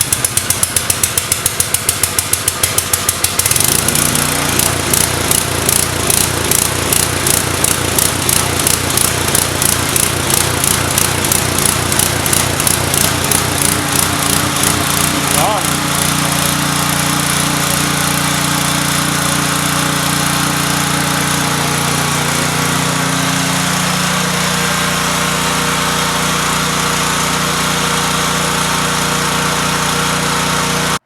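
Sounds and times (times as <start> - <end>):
pressure washer engine running: 0.0 - 31.0.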